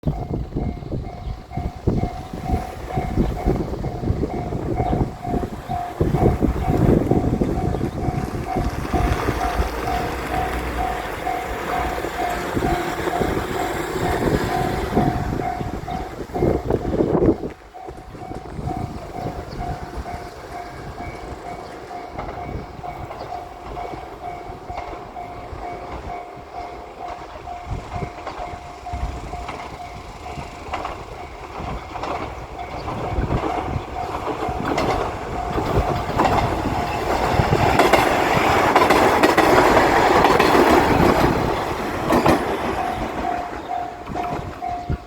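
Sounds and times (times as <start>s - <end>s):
diesel railcar passing: 0.0s - 45.0s
level-crossing bell ringing: 0.0s - 45.0s
train wheels clacking: 0.0s - 45.0s.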